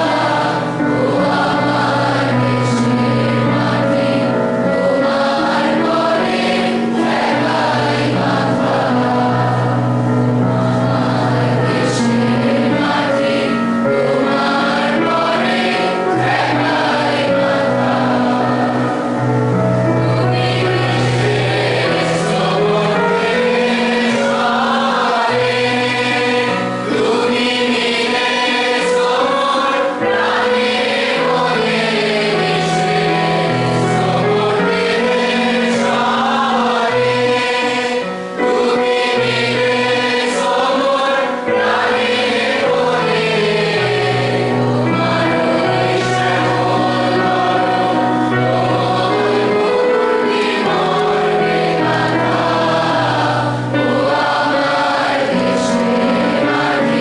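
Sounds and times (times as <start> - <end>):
children singing in chorus: 0.0 - 57.0.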